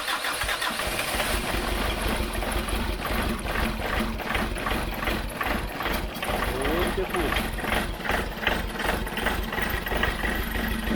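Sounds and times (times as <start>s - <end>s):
car engine starting and running: 0.0s - 10.9s.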